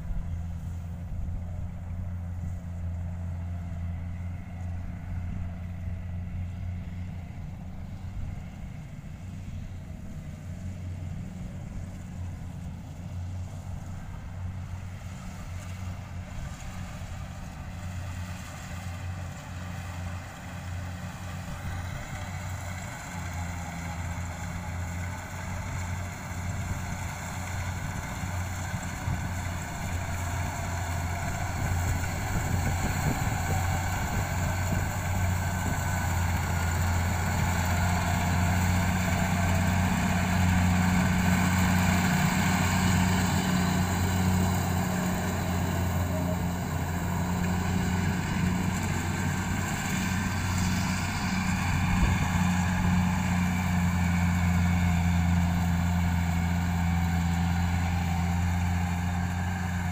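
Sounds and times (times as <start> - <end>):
diesel engine hum: 0.0 - 59.9.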